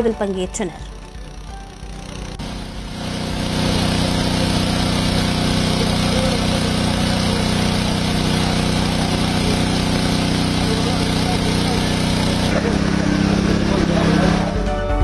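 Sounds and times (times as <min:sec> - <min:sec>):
pump engine running: 0:00.0 - 0:14.8.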